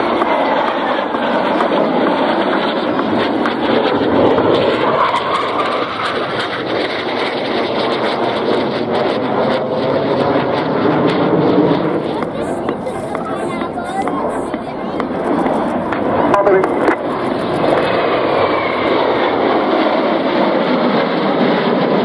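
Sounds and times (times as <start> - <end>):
jet engine flying past: 0.0 - 22.0.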